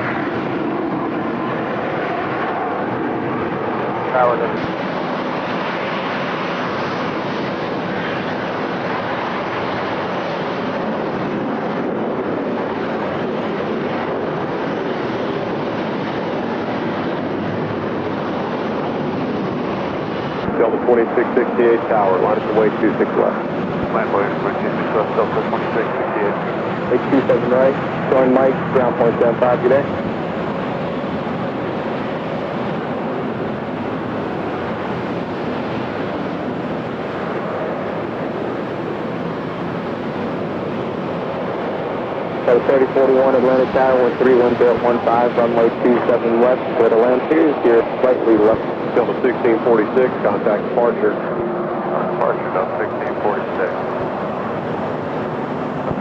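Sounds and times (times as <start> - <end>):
jet aircraft engine roar: 0.0 - 56.0.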